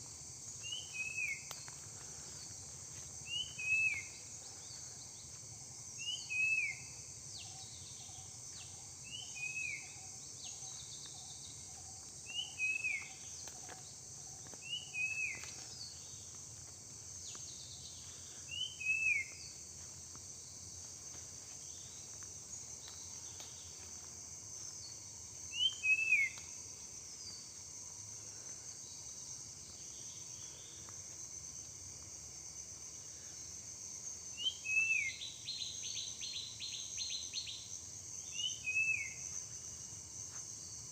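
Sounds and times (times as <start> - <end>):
crickets droning: 0.0 - 40.9.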